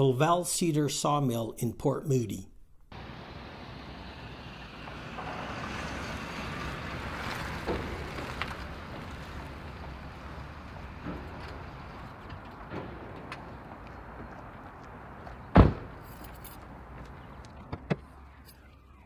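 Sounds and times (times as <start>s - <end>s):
minivan driving past: 2.9s - 18.9s.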